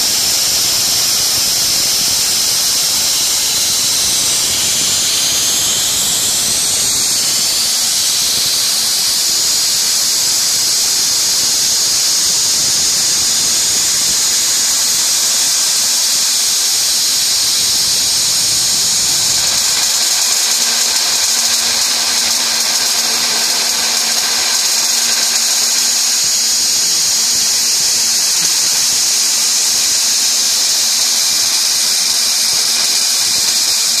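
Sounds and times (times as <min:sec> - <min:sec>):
mill spindle high-pitched whine: 0:00.0 - 0:34.0.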